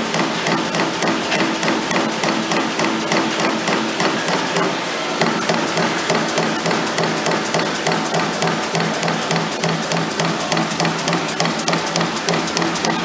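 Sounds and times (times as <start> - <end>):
low machine hum: 0.0 - 13.0
punch strokes on sheet metal: 0.0 - 13.0.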